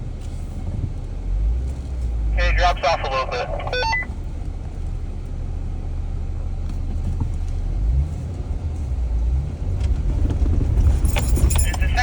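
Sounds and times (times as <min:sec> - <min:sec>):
vehicle driving on dirt trail: 0:00.0 - 0:12.0.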